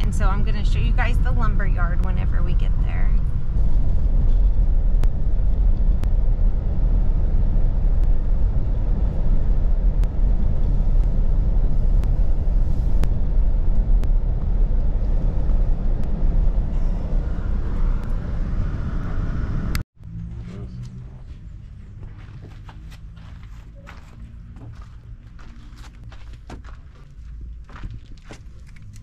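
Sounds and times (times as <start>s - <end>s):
car rumble on dirt road: 0.0s - 29.0s.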